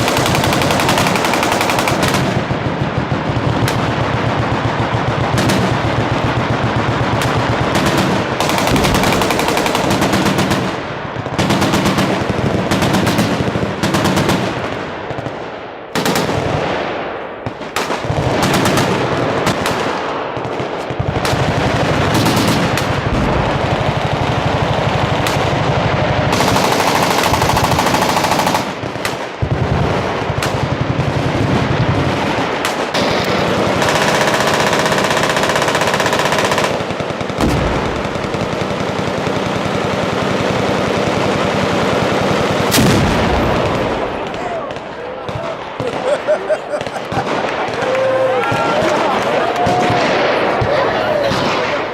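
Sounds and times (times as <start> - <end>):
automatic machine gun fire: 0.0 - 15.3, 16.0 - 16.8, 17.5 - 44.8.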